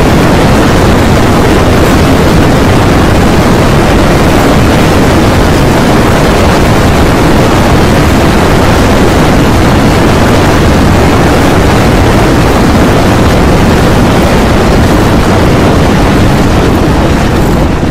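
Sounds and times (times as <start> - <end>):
rumble of running animals: 0.0 - 17.9.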